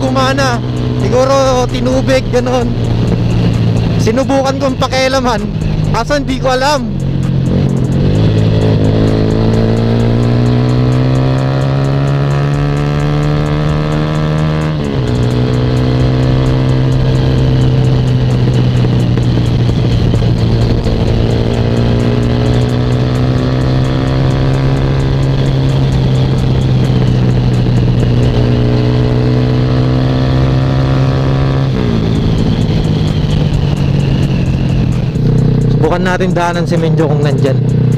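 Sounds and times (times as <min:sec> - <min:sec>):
motorcycle engine running: 0:00.0 - 0:37.9
wind noise: 0:01.8 - 0:35.8.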